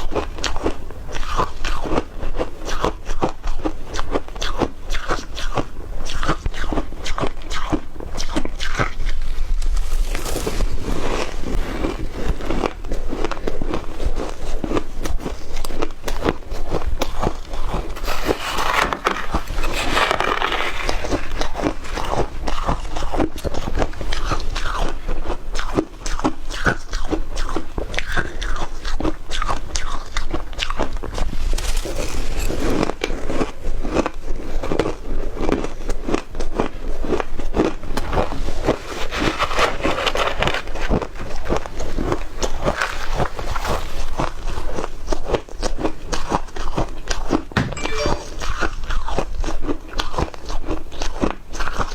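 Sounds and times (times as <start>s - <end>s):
shaved ice being chewed: 0.0s - 51.9s.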